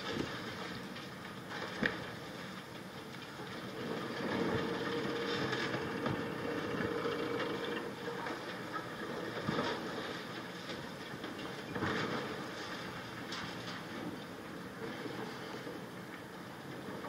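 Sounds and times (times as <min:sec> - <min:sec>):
hydraulic hum of excavator: 0:00.0 - 0:17.0.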